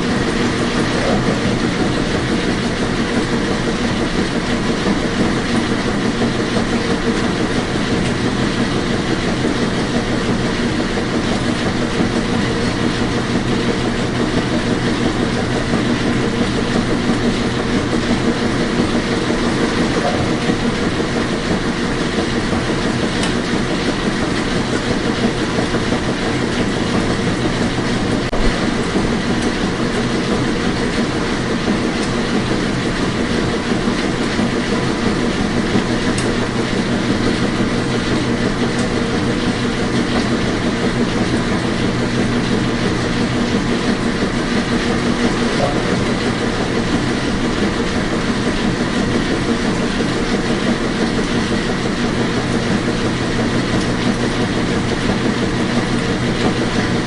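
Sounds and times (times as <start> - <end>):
washing machine churning: 0.0 - 57.0.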